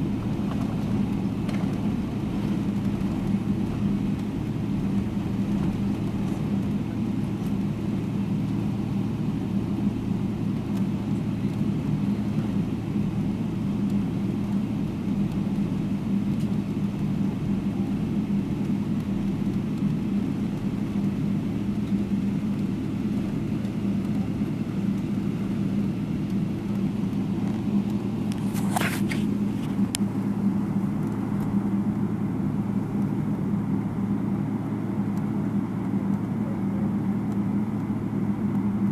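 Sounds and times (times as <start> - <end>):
airliner engines droning: 0.0 - 38.9.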